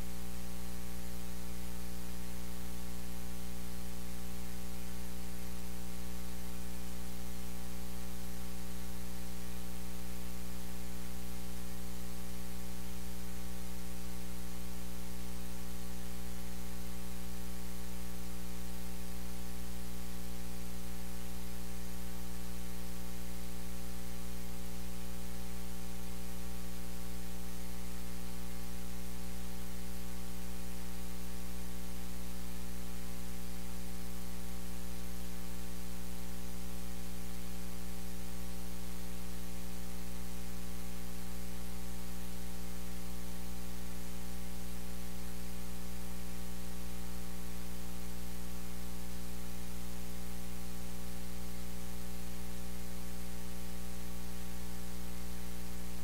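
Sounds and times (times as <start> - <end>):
electrical mains hum with hiss: 0.0 - 56.0.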